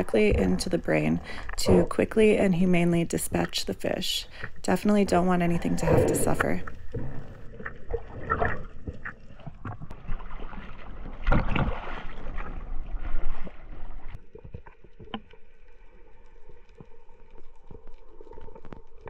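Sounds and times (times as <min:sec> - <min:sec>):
water sloshing and splashing: 0:00.0 - 0:15.6.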